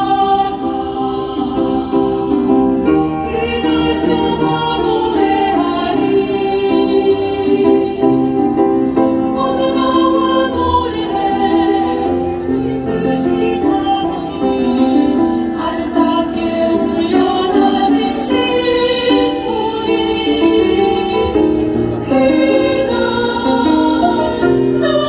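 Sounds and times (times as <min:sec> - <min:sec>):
women's choir singing in harmony: 0:00.0 - 0:25.0.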